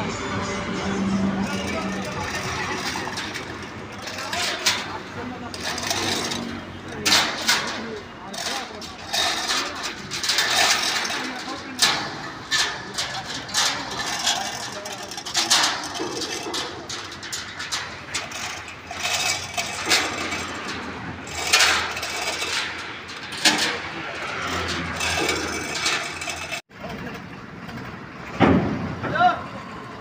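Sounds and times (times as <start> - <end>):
metal knocks and clanks: 1.3 - 26.6.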